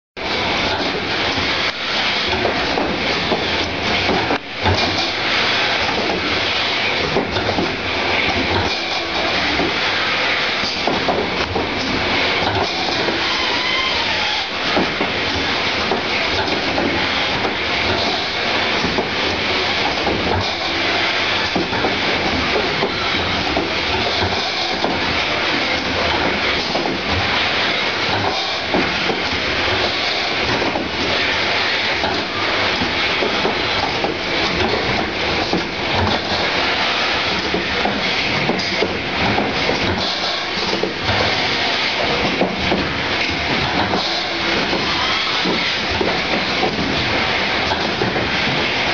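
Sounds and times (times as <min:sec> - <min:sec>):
filling machine clatter: 0:00.2 - 0:48.9
machine hiss: 0:00.2 - 0:48.9.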